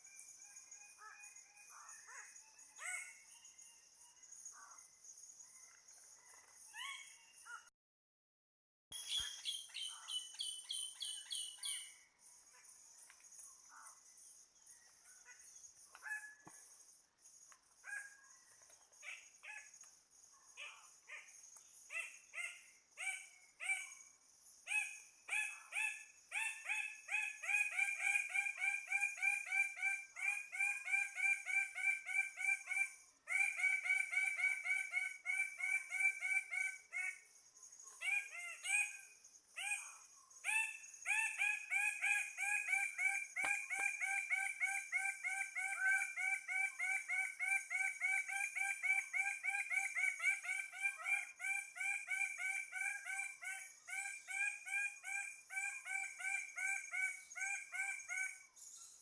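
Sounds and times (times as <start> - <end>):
forest birds calling: 4.5 - 7.7, 8.9 - 59.0.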